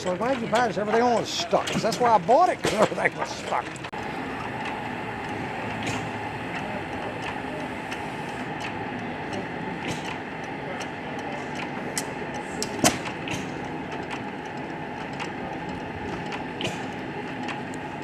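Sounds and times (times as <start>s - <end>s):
old gas engines clattering: 0.0s - 18.0s
sharp engine clicks: 0.0s - 18.0s.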